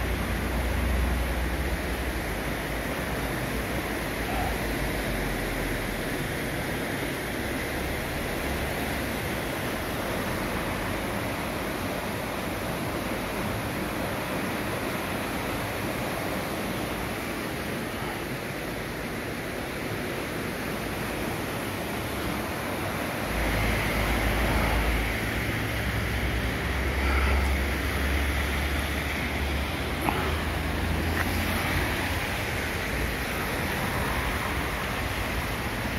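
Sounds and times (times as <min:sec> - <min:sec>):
river floodwater rushing: 0:00.0 - 0:35.9.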